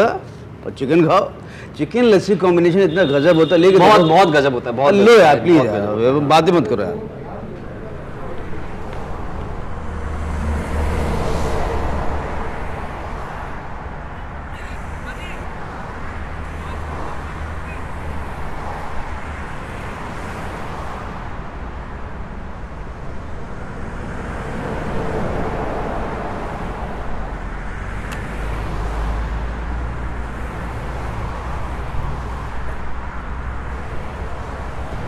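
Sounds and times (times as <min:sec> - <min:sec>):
rumble of road traffic: 0:00.0 - 0:35.0.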